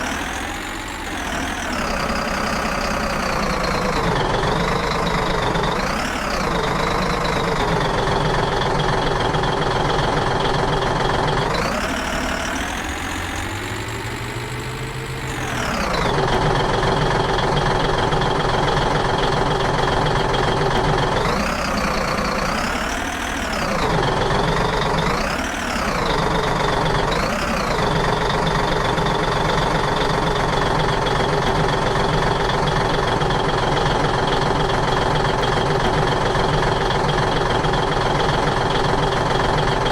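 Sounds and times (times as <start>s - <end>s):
motor running: 0.0s - 39.9s.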